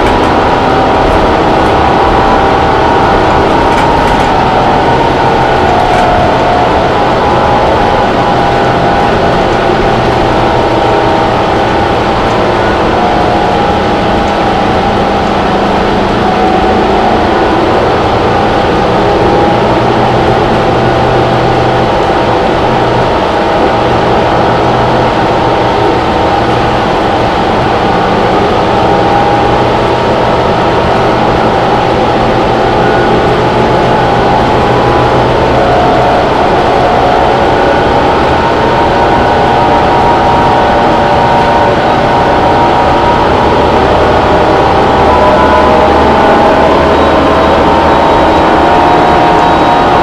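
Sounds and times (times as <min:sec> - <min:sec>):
bus engine drone with whine: 0:00.0 - 0:50.0
road noise: 0:00.0 - 0:50.0.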